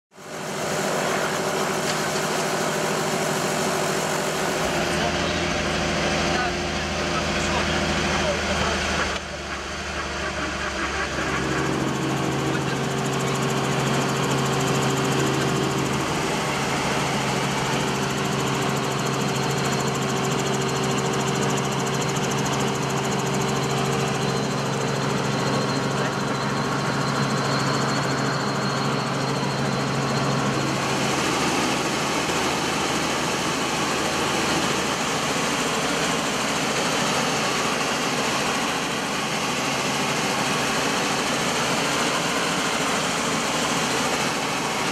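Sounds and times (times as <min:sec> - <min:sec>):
helicopter engine hum: 0:00.1 - 0:44.9
helicopter rotor rushing noise: 0:00.1 - 0:44.9.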